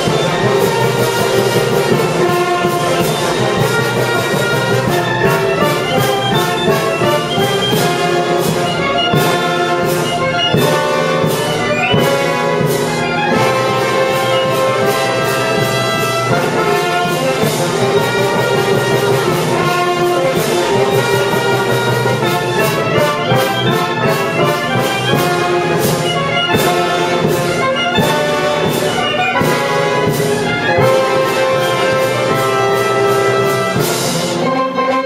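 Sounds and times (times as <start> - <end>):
wind band playing: 0.0 - 35.0.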